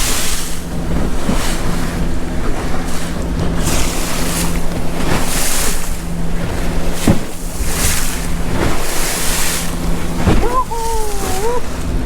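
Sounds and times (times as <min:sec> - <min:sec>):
boat engine drone: 0:00.0 - 0:12.0
water rushing along hull: 0:00.0 - 0:12.0.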